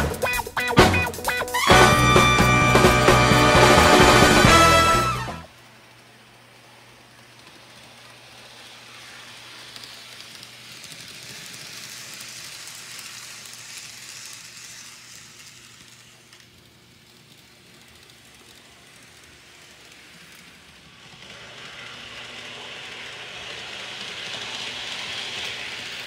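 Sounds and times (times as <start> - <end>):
model train wheels rattling: 0.0 - 26.0.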